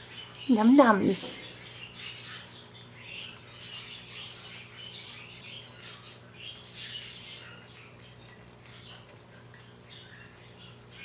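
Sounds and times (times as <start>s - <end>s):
caged birds chirping: 0.0s - 11.0s
steady low hum: 0.0s - 11.0s.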